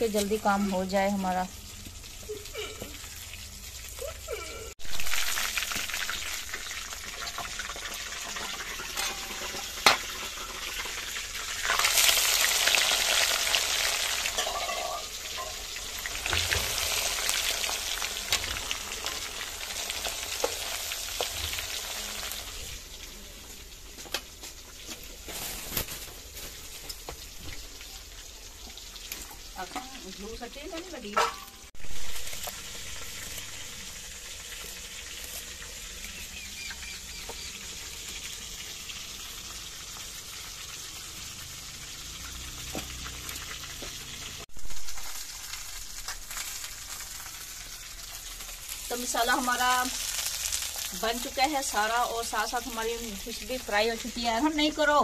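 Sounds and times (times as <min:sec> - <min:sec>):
fish sizzling in hot oil: 0:00.0 - 0:55.0.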